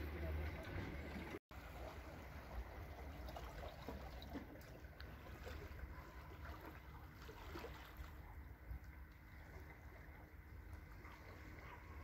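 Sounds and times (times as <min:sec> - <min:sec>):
water lapping against rocky shore: 0:00.2 - 0:12.0.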